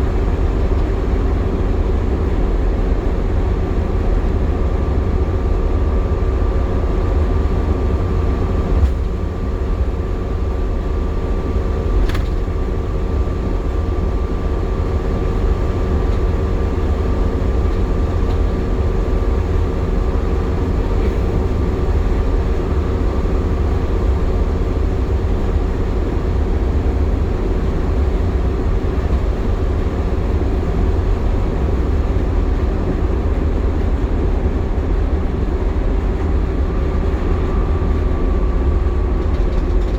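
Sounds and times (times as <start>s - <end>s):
bus engine and road rumble: 0.0s - 39.9s
cooling fan whine: 0.0s - 39.9s.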